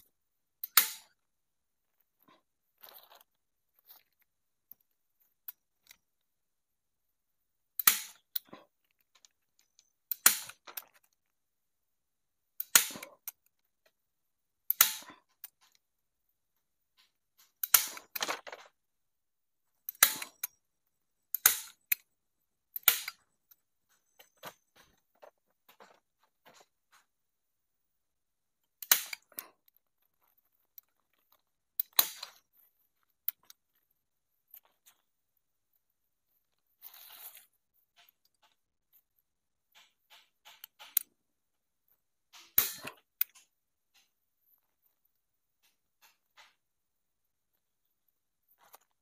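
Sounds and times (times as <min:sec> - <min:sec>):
faint handling sounds: 0:00.0 - 0:49.0.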